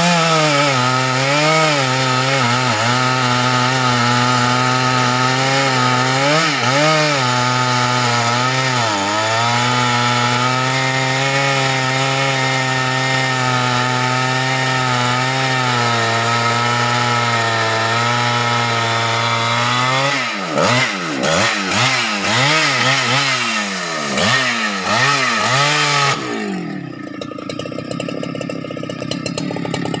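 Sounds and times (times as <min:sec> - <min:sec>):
chainsaw cutting log: 0:00.0 - 0:30.0
chainsaw idling: 0:00.0 - 0:30.0
chainsaw revving: 0:00.0 - 0:30.0.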